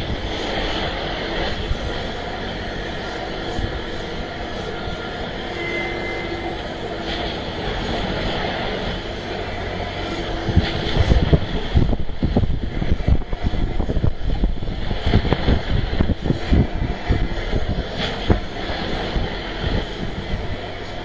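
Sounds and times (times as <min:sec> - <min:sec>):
diesel engine running: 0:00.0 - 0:21.0
wind buffeting microphone: 0:00.0 - 0:21.0.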